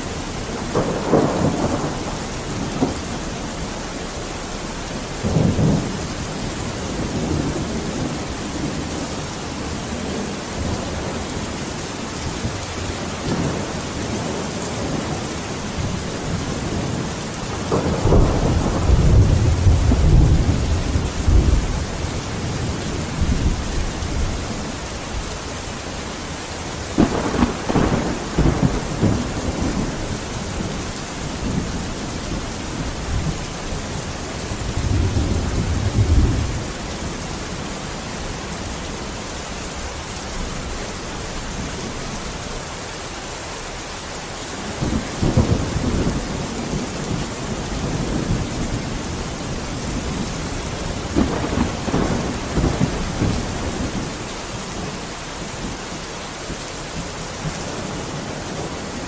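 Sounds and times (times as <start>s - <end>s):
thunder rumbling: 0.0s - 42.4s, 44.6s - 55.8s
heavy rain hissing: 0.0s - 59.0s.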